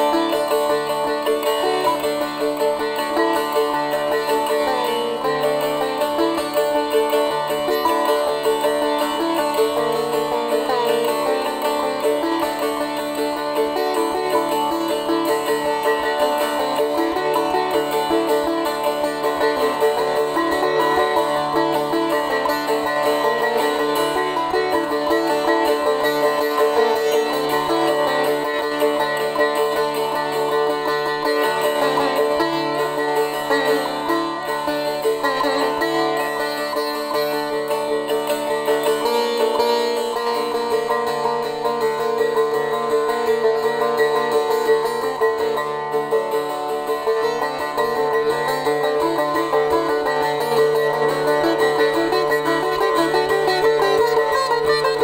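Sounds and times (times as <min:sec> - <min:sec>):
plucked string instrumental music: 0:00.0 - 0:55.0.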